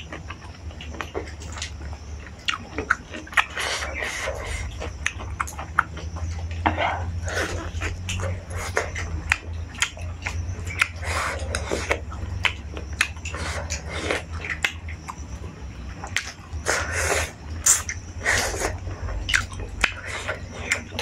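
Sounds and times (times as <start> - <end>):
steady low hum: 0.0 - 21.0
wet mouth clicks: 2.4 - 6.3, 7.1 - 15.3, 16.0 - 21.0.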